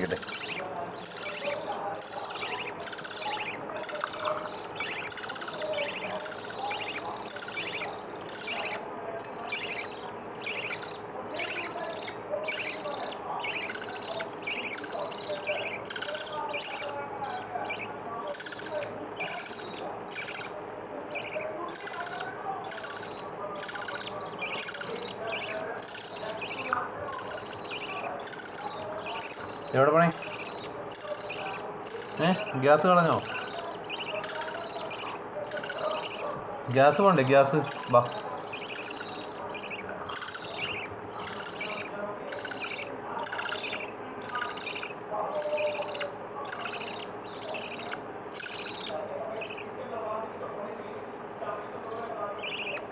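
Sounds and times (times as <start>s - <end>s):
bird chicks begging calls: 0.0s - 52.9s.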